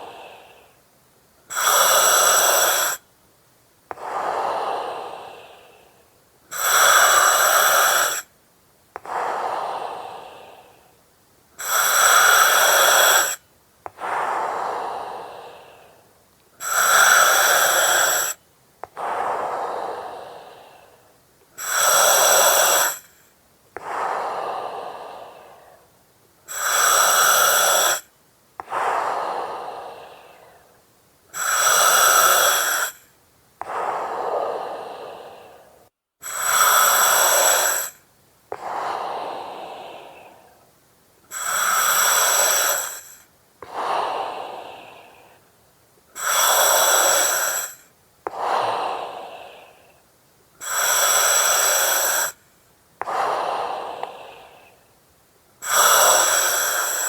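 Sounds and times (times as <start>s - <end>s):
breathing through oxygen mask: 0.0s - 0.8s, 1.5s - 3.0s, 3.9s - 8.3s, 11.6s - 25.9s, 26.5s - 40.7s, 41.3s - 45.5s, 46.1s - 50.0s, 50.6s - 52.4s, 53.0s - 54.8s, 55.6s - 57.0s.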